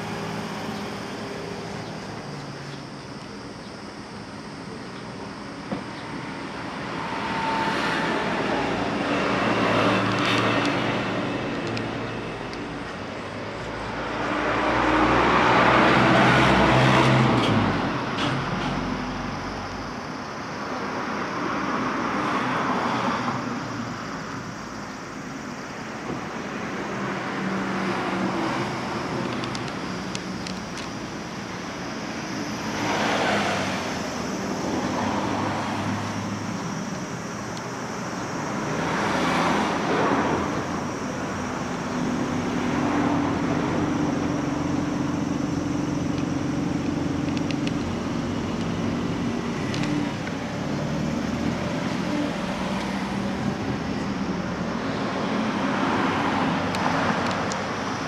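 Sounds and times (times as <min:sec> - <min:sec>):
cars and trucks passing: 0:00.0 - 0:58.0.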